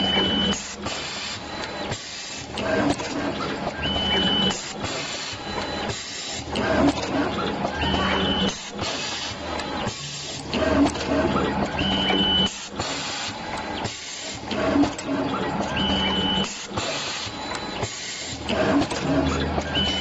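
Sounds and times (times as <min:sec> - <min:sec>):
machine clicks and knocks: 0:00.0 - 0:20.0
machine motor hum: 0:00.0 - 0:20.0.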